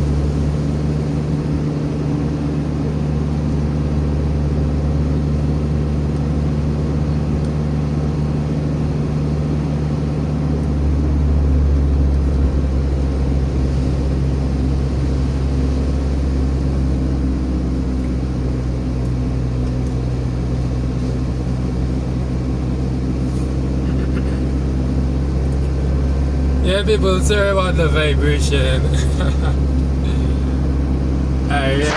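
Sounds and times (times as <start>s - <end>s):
vehicle engine and road hum: 0.0s - 31.9s.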